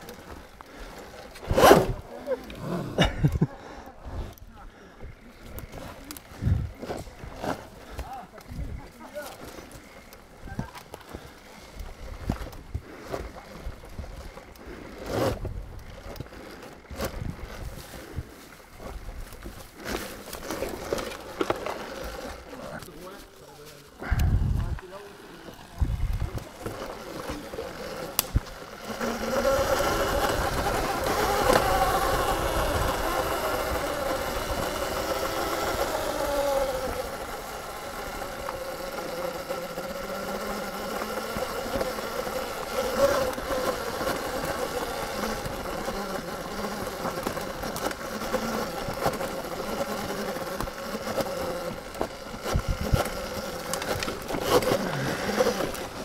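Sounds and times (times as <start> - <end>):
electric motorbike motor whining: 0.0 - 56.0.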